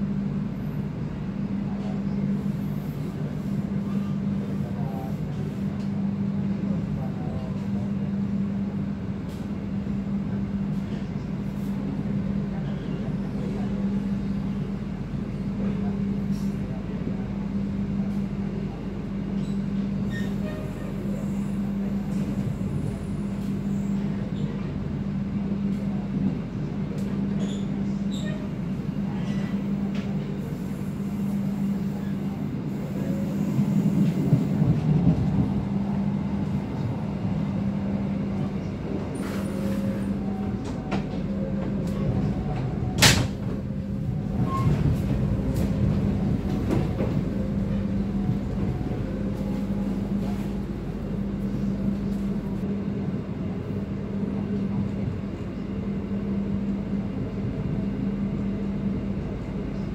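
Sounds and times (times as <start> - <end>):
constant hum: 0.0 - 59.9
train rolling rumble: 0.0 - 59.9.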